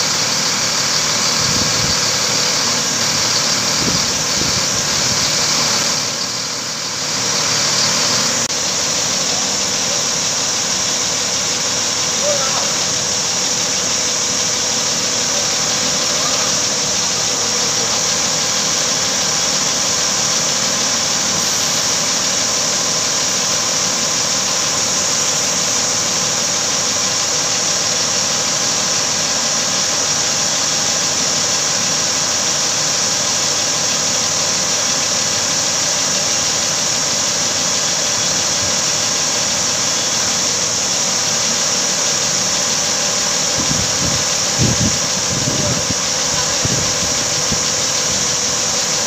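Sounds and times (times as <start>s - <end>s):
diesel engine running: 0.0s - 49.0s
steady high whine: 0.0s - 49.0s.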